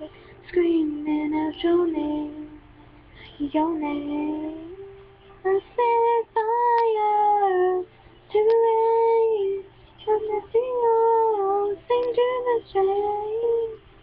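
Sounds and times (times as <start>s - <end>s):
girl singing: 0.0s - 2.6s, 3.3s - 13.9s.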